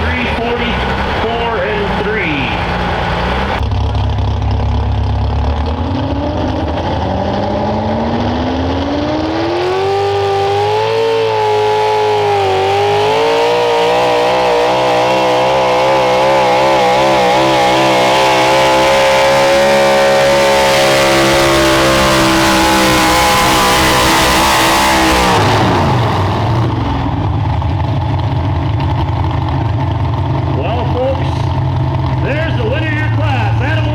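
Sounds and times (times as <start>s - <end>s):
engine at full throttle: 0.0s - 33.9s.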